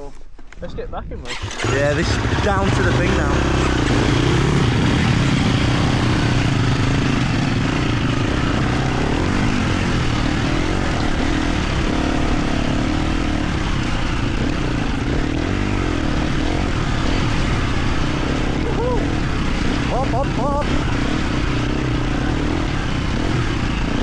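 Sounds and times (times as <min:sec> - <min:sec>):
dirt bike engine running: 0:01.3 - 0:24.0.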